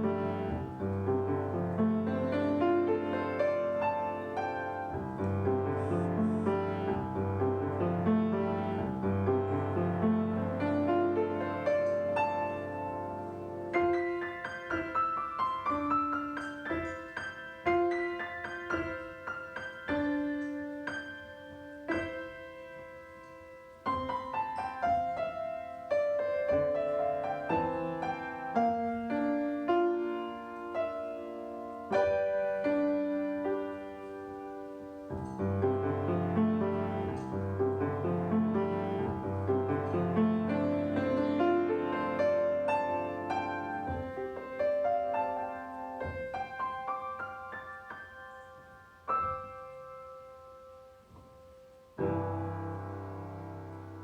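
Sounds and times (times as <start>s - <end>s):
solo piano piece: 0.0s - 54.0s.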